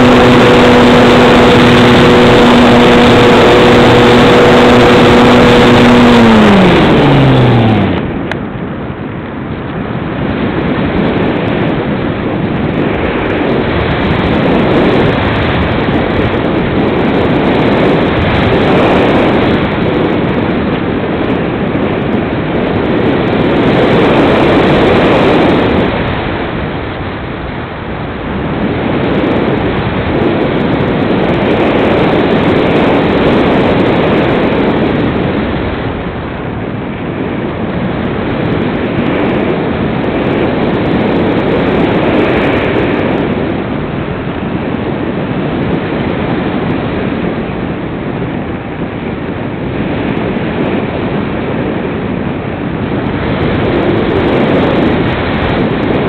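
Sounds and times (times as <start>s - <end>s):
wind rushing over camera: 0.0s - 56.0s.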